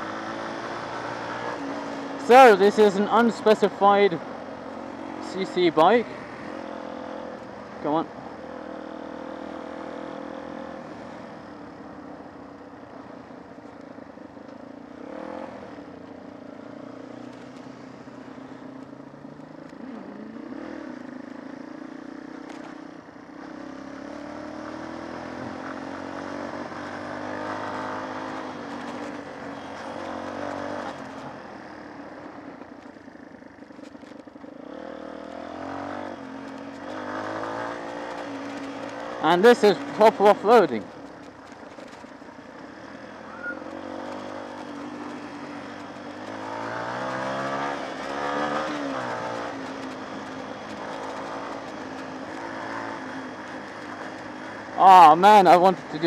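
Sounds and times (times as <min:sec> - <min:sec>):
motorcycle engine revving: 0:00.0 - 0:11.9, 0:14.8 - 0:56.0.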